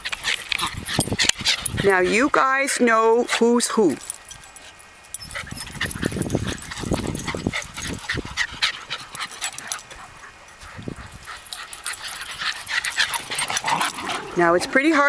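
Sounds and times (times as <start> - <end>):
dogs playing and scuffling: 0.0 - 15.0.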